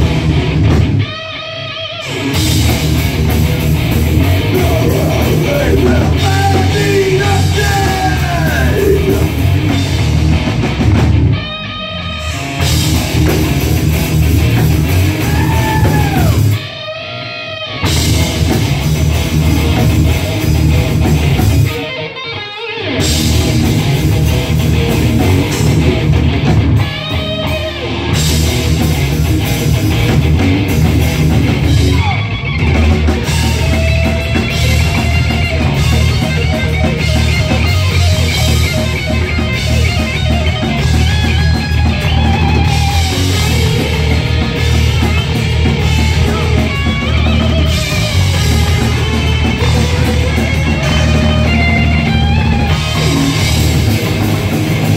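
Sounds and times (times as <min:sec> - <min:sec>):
drum kit: 0:00.0 - 0:16.8, 0:17.7 - 0:22.0, 0:22.8 - 0:54.9
electric guitars: 0:00.0 - 0:54.9.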